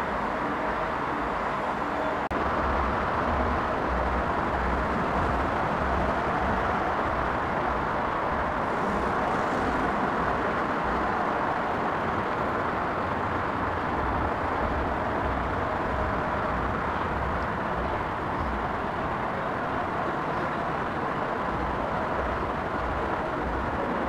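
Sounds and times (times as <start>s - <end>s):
airport noise rumble: 0.0s - 24.0s
road traffic noise: 0.0s - 24.0s.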